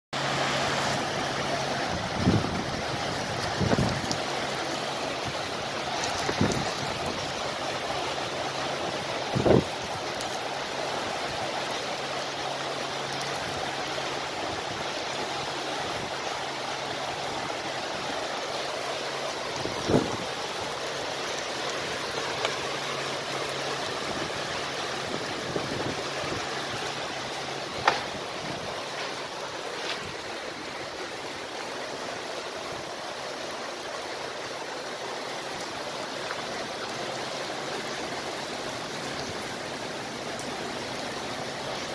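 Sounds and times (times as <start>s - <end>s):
heavy rain falling: 0.2s - 41.9s.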